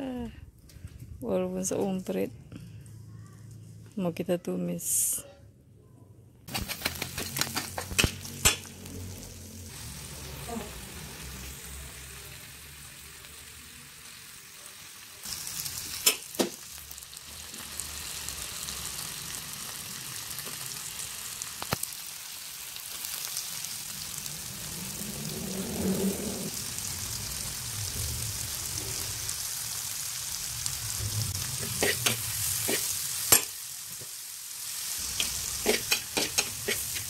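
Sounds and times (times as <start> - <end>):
oil sizzling in a wok: 6.5 - 37.0.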